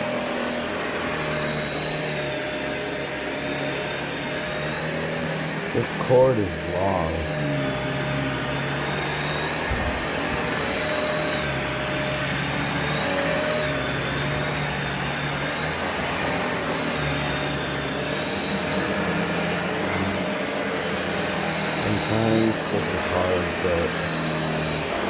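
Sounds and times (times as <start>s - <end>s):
upright vacuum cleaner running: 0.0s - 25.0s.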